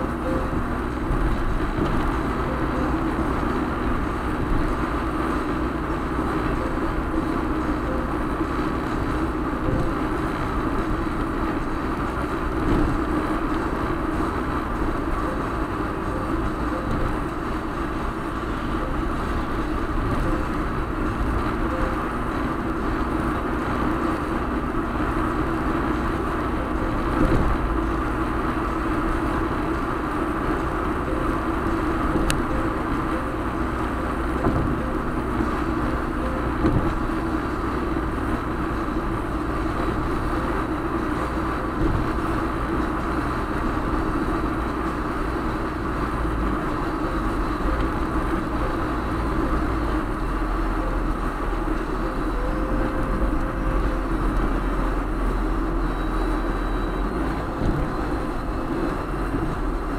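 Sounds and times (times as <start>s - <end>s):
car road noise from inside: 0.0s - 59.9s.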